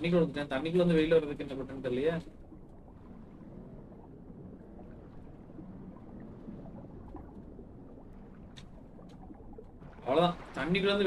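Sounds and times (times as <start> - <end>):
low underwater rumble: 0.0 - 11.0.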